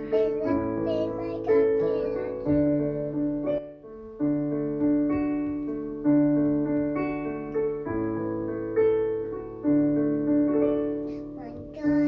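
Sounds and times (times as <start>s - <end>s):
piano keyboard music: 0.0s - 12.0s.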